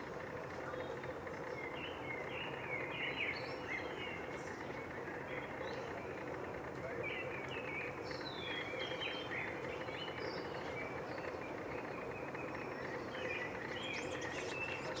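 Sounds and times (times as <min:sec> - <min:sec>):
steady background hum: 0:00.0 - 0:15.0
small birds chirping: 0:00.5 - 0:15.0.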